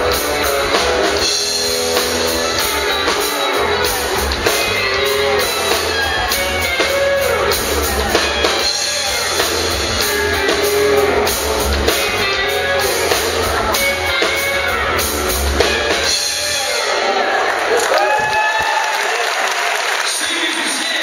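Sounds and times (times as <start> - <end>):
electric bass: 0.0 - 17.0
drum kit beat: 0.0 - 17.1
electric guitar: 0.0 - 18.1.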